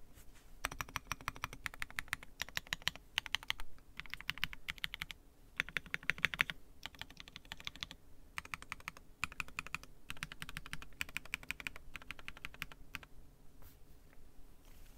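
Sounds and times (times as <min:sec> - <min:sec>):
mechanical keyboard typing: 0:00.6 - 0:13.1.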